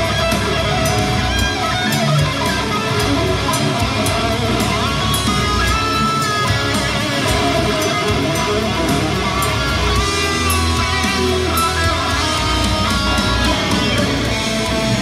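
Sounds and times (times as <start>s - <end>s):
heavy metal electric guitar: 0.0s - 15.0s.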